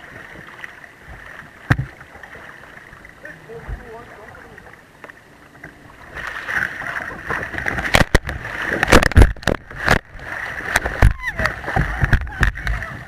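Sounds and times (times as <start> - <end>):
water splashing on camera: 0.0 - 13.0.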